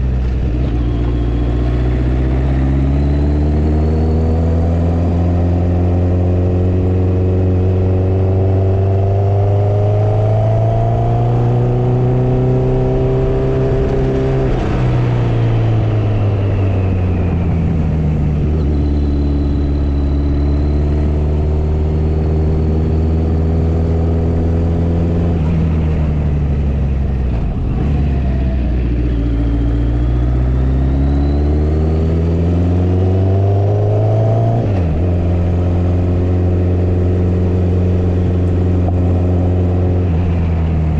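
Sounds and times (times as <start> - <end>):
motorcycle engine: 0.0 - 40.9
wind and road noise: 0.0 - 40.9.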